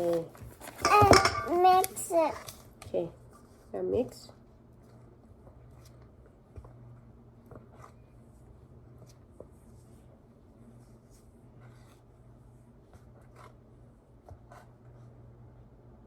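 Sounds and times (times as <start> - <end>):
dough stirred in a bowl: 0.0 - 16.0.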